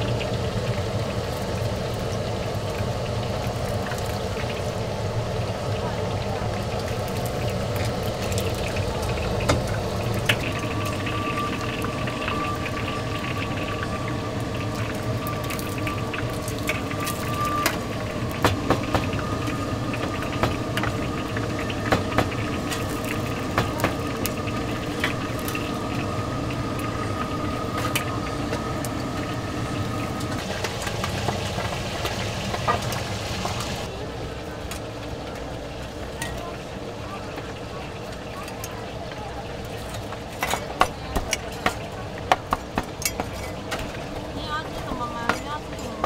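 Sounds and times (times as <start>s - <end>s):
oil sizzling in a wok: 0.0s - 46.0s.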